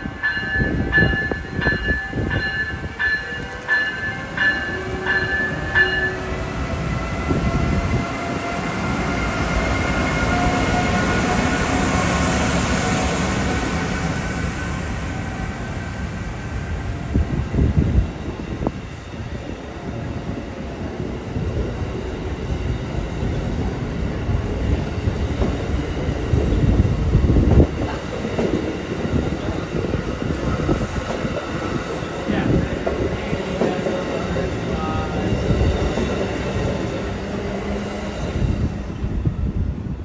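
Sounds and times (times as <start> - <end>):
train cars rumbling past: 0.0 - 40.0.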